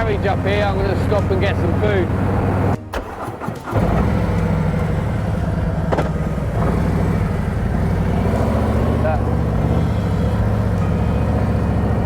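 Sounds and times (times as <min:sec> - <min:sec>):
motorcycle engine running: 0:00.0 - 0:02.8, 0:03.7 - 0:12.0.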